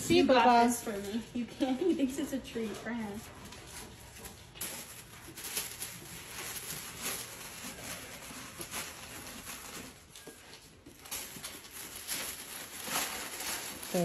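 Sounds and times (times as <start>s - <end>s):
packing paper rustling and crinkling: 0.0s - 14.0s.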